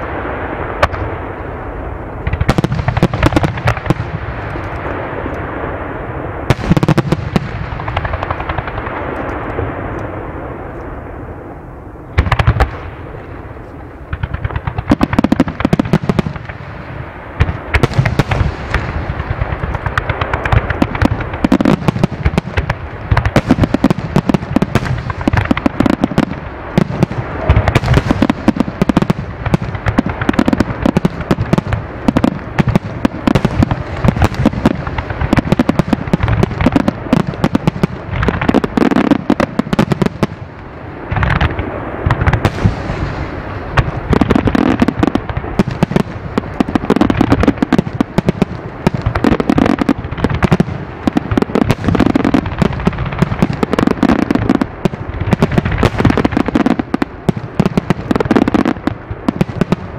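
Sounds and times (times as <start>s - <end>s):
fireworks booming: 0.0s - 59.9s
fireworks crackling: 0.0s - 59.9s.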